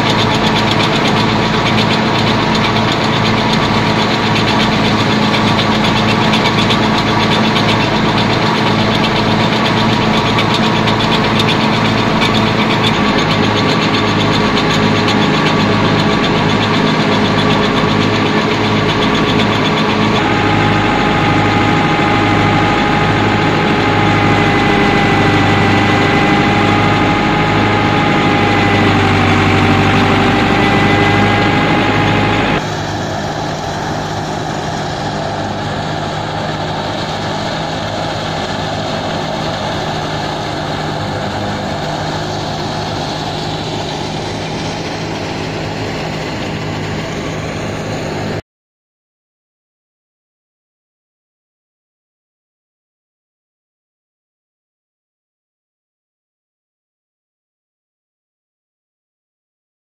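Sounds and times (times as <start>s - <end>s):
thin whine: 0.0s - 48.4s
thresher mechanical drone: 0.0s - 48.4s.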